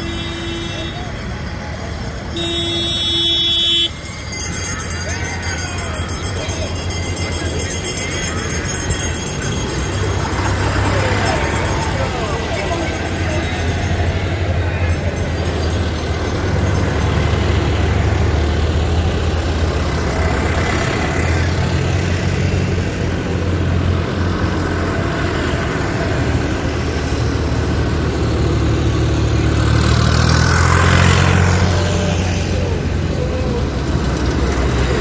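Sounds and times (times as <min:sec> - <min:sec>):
tractor engines droning: 0:00.0 - 0:35.0.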